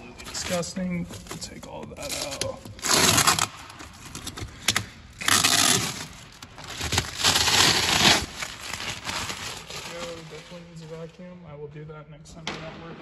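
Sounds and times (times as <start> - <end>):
plastic sheeting crinkling: 0.0 - 11.4.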